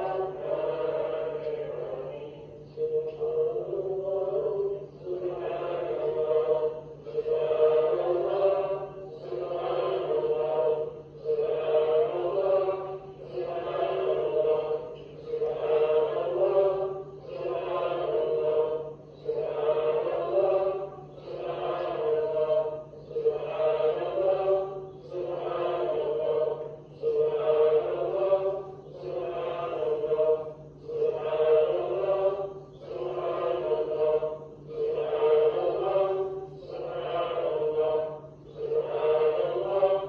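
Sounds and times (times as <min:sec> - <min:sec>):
group of voices chanting: 0:00.0 - 0:40.0
steady low hum: 0:00.0 - 0:40.0.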